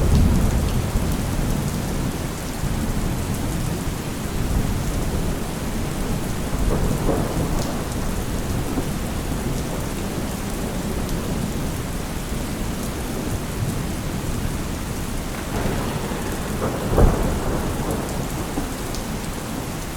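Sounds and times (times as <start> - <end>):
rolling thunder rumble: 0.0 - 11.7, 13.1 - 19.9
heavy rain on surfaces: 0.0 - 19.9.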